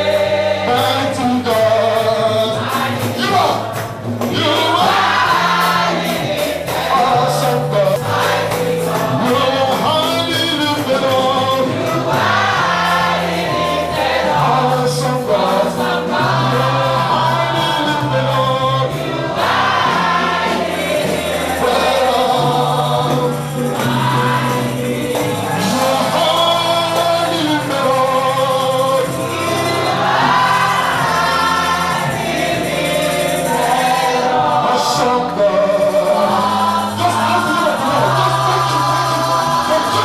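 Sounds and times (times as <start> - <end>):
gospel choir singing: 0.0 - 40.0
live band: 0.0 - 40.0.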